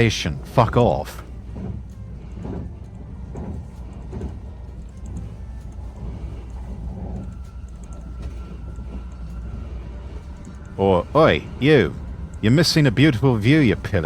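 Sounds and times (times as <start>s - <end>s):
train rumble and hiss: 0.0s - 14.0s.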